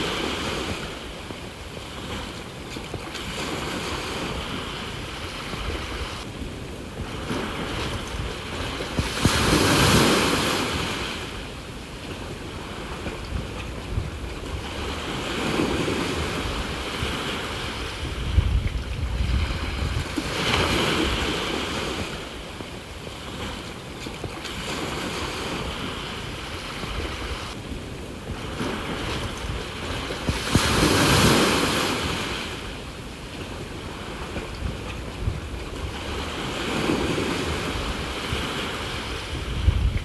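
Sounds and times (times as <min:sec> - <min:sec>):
waves washing onto shore: 0:00.0 - 0:40.0.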